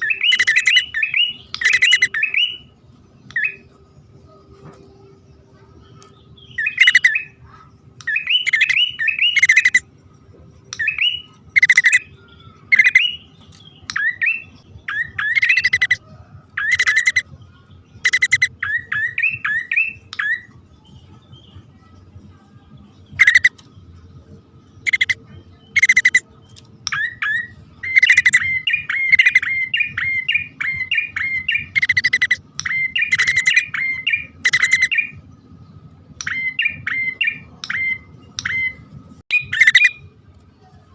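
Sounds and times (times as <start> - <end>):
bird chirping calls: 0.0 - 40.1.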